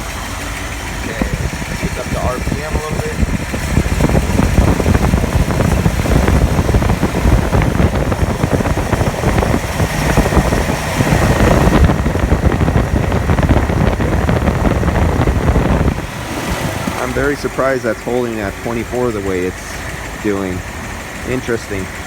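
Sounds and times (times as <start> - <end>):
car engine running at raised revs: 0.0 - 22.0.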